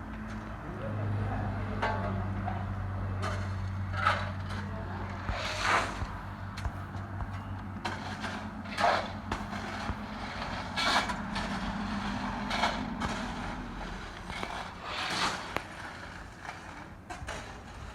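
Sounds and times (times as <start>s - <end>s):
noisy engine surges: 0.0s - 17.9s.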